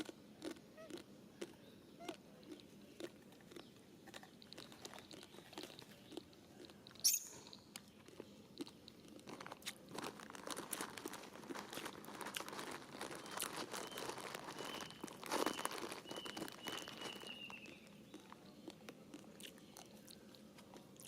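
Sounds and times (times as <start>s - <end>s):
crunching and crinkling clicks: 0.0s - 21.0s.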